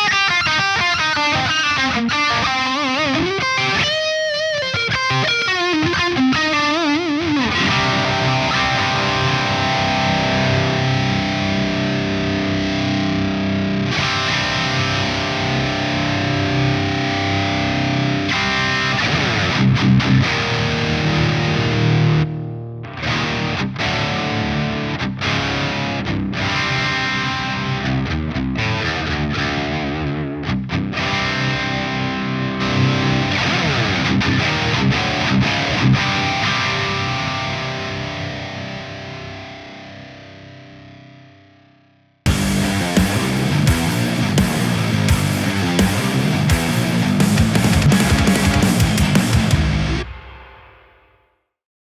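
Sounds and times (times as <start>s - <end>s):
distorted electric guitar: 0.0s - 51.2s.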